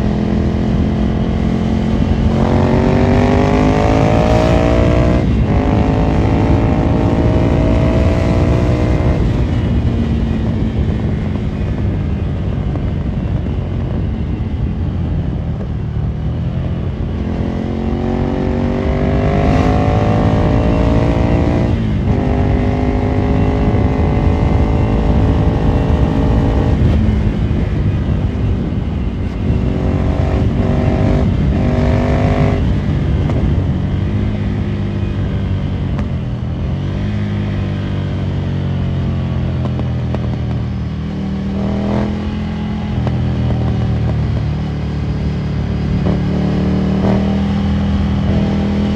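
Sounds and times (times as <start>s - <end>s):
motorcycle accelerating through gears: 0.0s - 48.9s.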